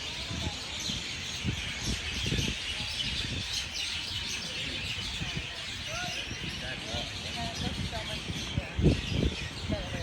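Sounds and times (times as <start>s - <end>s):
birds chirping: 0.0s - 10.0s
wind buffeting microphone: 0.0s - 10.0s.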